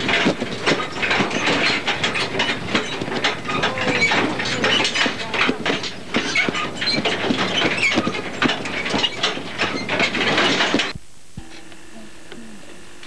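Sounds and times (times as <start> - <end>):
truck body rattling: 0.0 - 11.0.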